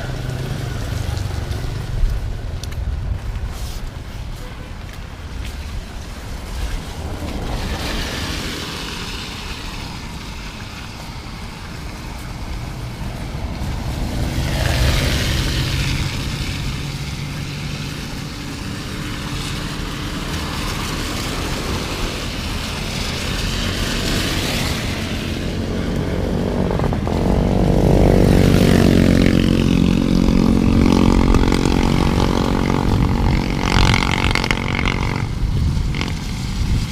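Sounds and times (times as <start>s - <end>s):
vehicles passing on wet road: 0.0s - 36.9s.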